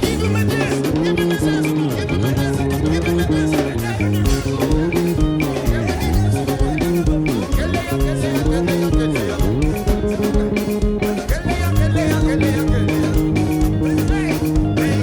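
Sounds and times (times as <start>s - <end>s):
bass: 0.0s - 15.0s
drum beat: 0.0s - 15.0s
electric guitar lines: 0.0s - 15.0s.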